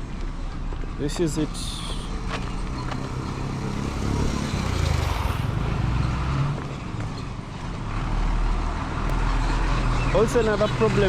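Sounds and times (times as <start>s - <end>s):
motor vehicle passing: 1.5s - 11.0s.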